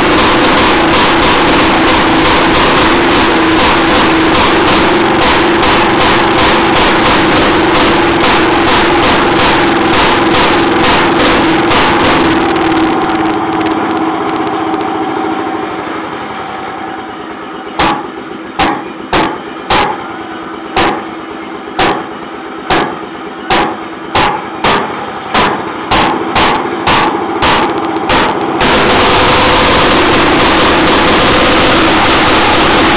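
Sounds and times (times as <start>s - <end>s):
two-stroke engine running and popping: 0.0s - 32.9s.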